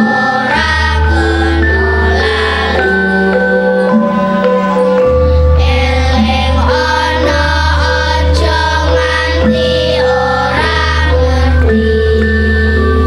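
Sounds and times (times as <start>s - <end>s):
girls choir singing in unison: 0.0s - 12.8s
accompaniment with low bass: 0.0s - 13.0s.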